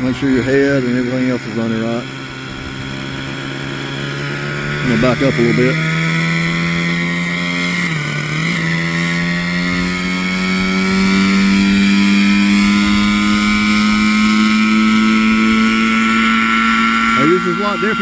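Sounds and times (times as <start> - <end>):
model helicopter engine whining: 0.0 - 18.0.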